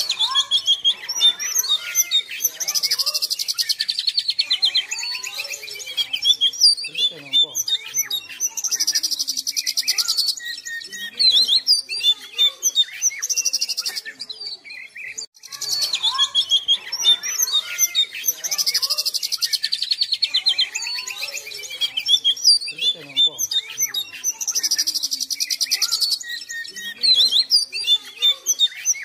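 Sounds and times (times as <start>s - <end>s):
bird whistles and chirps: 0.0s - 29.0s.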